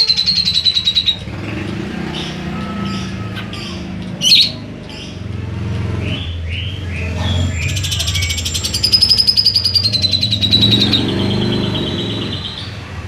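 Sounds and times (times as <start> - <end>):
loud sharp bird call: 0.0 - 12.8
bird singing: 0.0 - 12.9.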